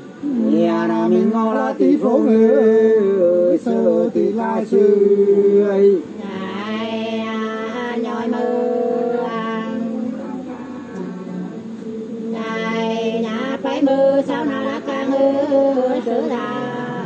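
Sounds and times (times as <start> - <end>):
two men singing unaccompanied: 0.0 - 17.0.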